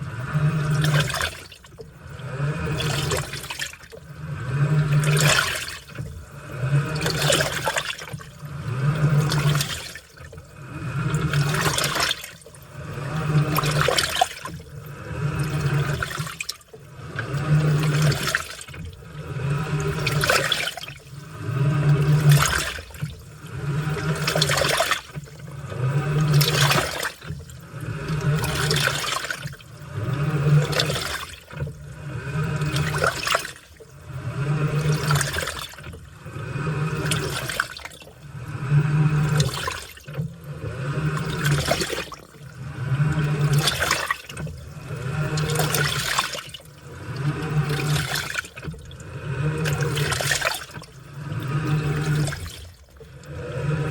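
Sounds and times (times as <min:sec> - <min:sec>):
washing machine motor hum: 0:00.0 - 0:53.9
water and laundry sloshing: 0:00.0 - 0:53.9.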